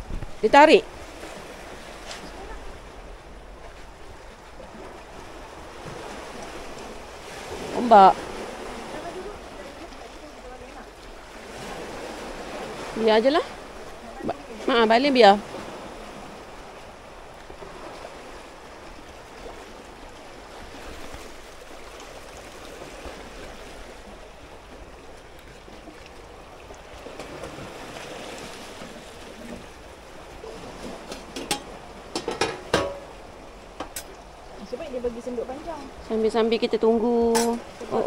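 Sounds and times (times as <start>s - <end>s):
small waves washing on shore: 0.0s - 38.0s.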